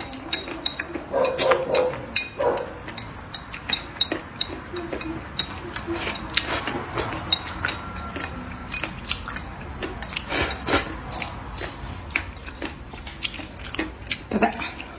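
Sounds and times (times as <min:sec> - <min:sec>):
eating sounds: 0:00.0 - 0:14.9.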